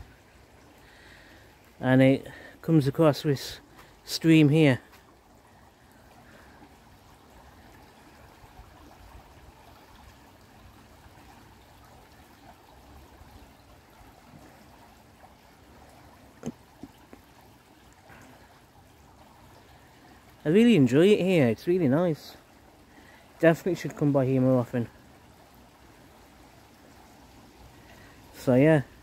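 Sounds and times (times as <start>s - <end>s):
stream trickling: 0.0s - 29.0s.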